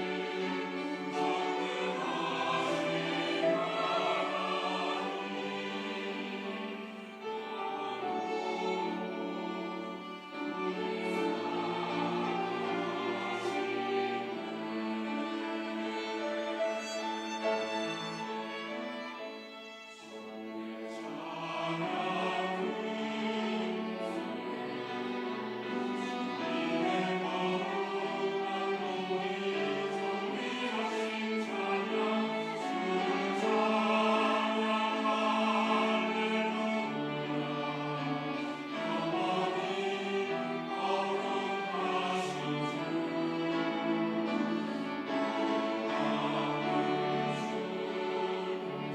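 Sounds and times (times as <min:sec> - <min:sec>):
choir singing in parts: 0:00.0 - 0:48.9.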